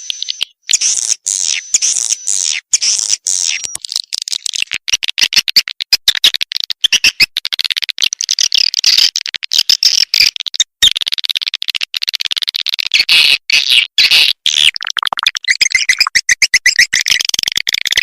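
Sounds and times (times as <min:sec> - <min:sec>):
recorded swiftlet calls: 0:00.0 - 0:05.5, 0:06.1 - 0:18.0.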